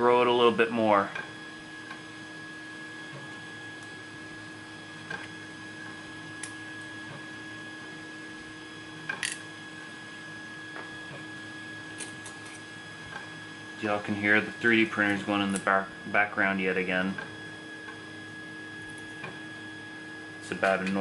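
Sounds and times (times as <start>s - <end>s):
printers humming with high whine: 0.0s - 21.0s.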